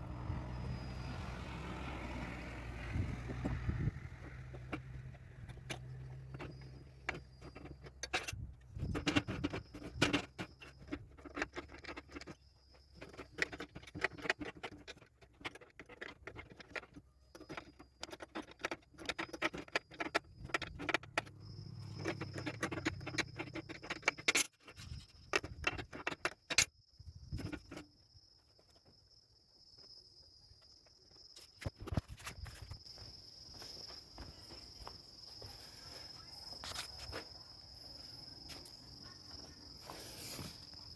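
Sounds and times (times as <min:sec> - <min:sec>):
high insect trill: 0:00.0 - 0:15.4, 0:17.0 - 0:40.9.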